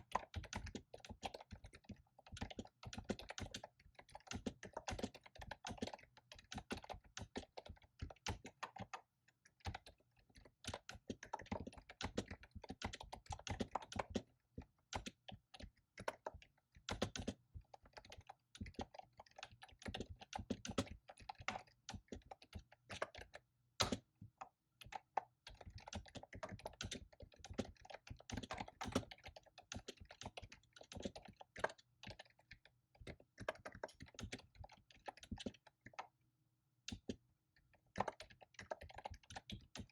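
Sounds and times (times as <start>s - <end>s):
fast typing on keyboard: 0.0s - 36.2s, 36.9s - 39.9s.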